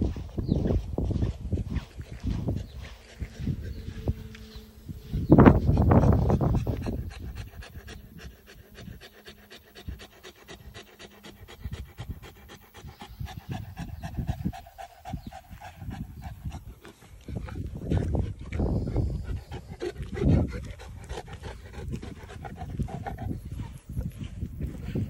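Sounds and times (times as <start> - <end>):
dog panting hard: 0.0 - 25.0.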